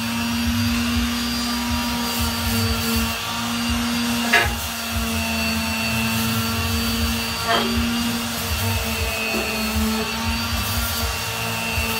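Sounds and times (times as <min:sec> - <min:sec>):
electric sander sanding metal: 0:00.0 - 0:11.9.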